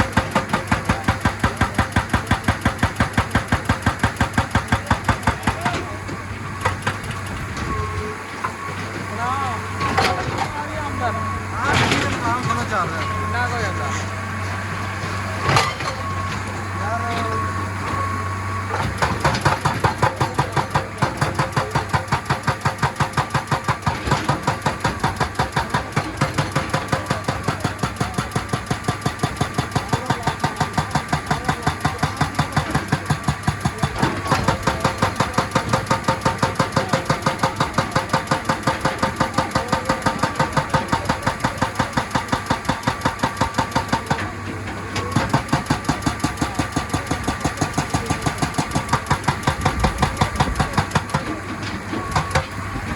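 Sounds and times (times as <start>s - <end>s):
hydraulic breaker hammering rock: 0.0s - 14.1s, 14.7s - 52.9s
excavator engine running: 0.0s - 52.9s.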